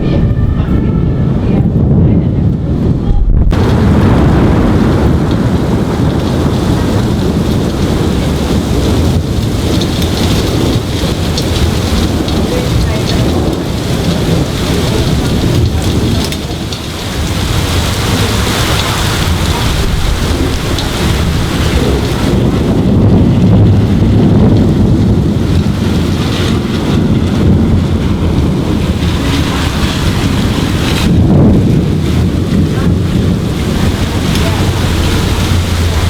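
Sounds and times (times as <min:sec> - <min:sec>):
heavy rain: 0:00.0 - 0:36.0
low rolling thunder: 0:00.0 - 0:36.0.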